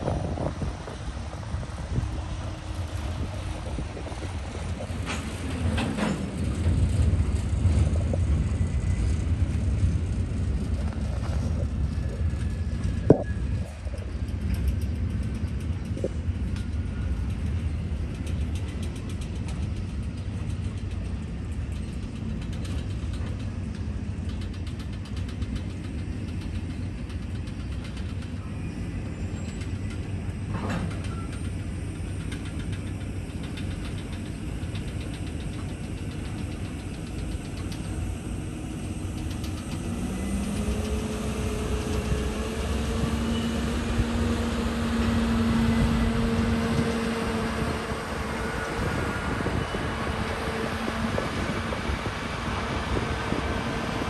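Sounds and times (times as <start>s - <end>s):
fast clicking of train: 0.0s - 54.0s
train rumbling past: 0.0s - 54.0s.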